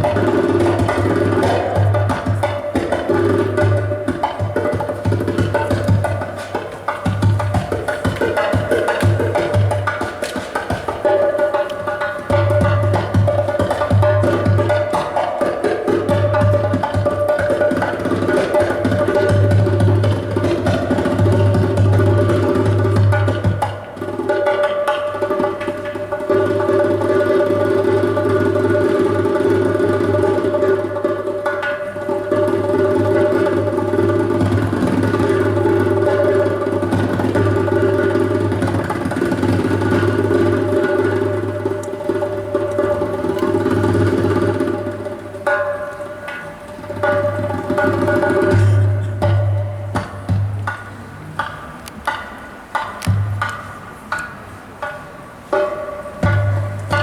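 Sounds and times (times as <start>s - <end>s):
hand percussion and drums: 0.0s - 57.0s
kaval: 0.0s - 57.0s.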